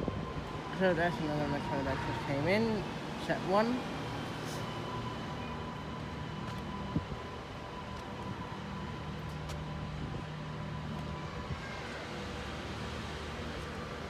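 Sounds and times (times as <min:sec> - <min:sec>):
electric train hum: 0:00.0 - 0:14.0.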